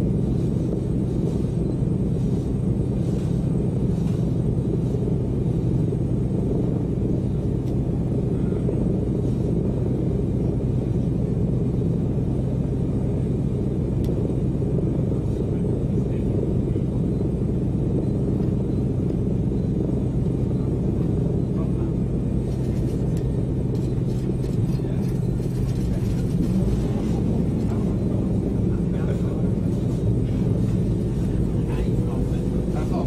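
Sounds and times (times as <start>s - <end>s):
aircraft engines rumbling: 0.0s - 33.0s.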